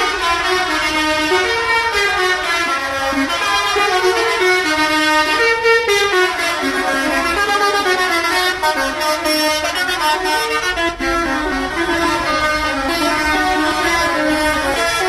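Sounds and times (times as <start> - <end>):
bus musical horns playing melodies: 0.0 - 15.0.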